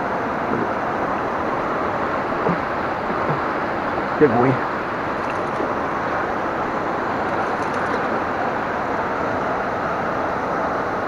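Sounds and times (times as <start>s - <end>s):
river rapids rushing over rocks: 0.0s - 10.9s.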